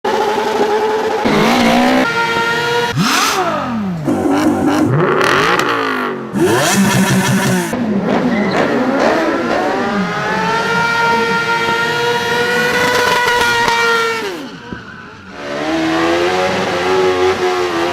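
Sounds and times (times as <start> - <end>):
motorbike engines revving hard: 0.1 - 17.9.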